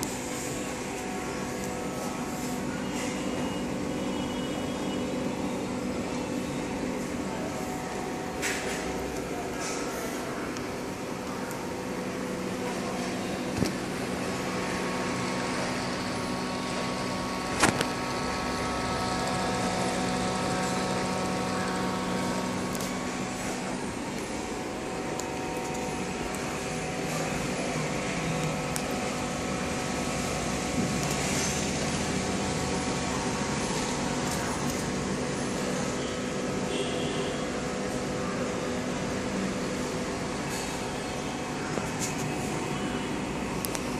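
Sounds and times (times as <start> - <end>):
aquarium pump hum: 0.0 - 43.9.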